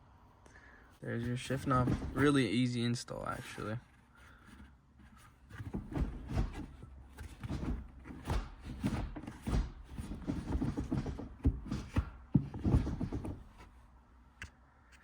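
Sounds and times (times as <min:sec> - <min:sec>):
soft handling knocks and rubbing: 0:00.9 - 0:15.0.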